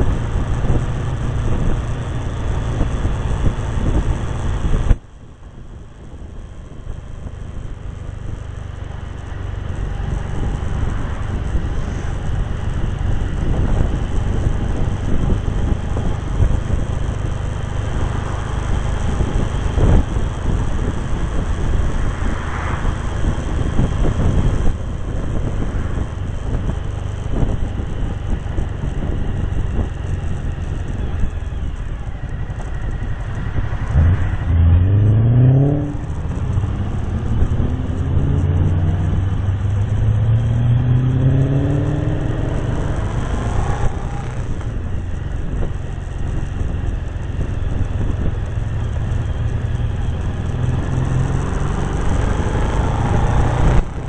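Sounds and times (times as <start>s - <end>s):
motorcycle engine accelerating: 0.0s - 54.0s
wind noise on microphone: 0.0s - 54.0s.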